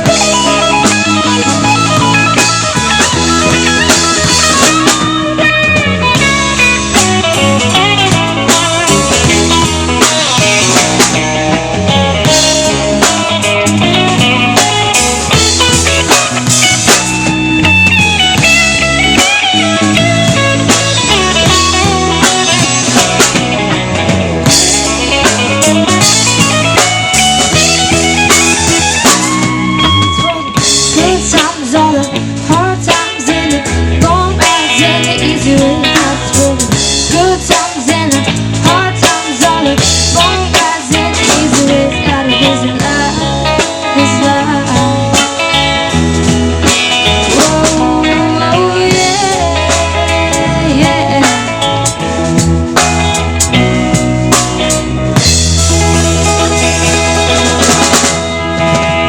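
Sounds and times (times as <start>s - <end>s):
bass guitar: 0.0s - 59.0s
drum kit beat: 0.0s - 59.0s
electric guitar lines: 0.0s - 59.0s.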